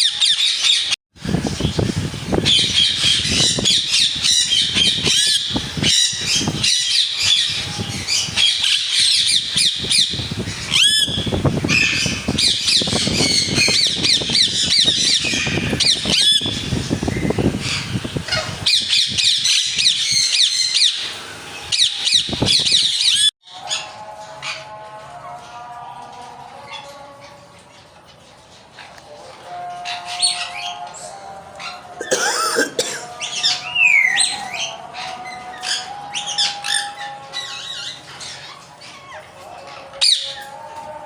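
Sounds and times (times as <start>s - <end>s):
parrots squawking and chirping: 0.0s - 24.9s, 26.3s - 40.9s.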